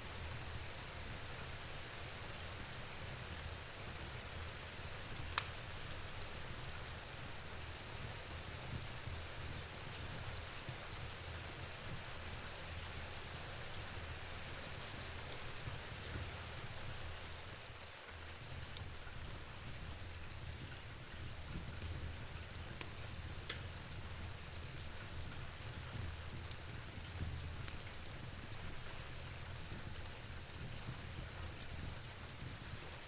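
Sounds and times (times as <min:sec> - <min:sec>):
steady rain hiss: 0:00.0 - 0:33.0
raindrops ticking: 0:00.1 - 0:17.5, 0:18.2 - 0:33.0.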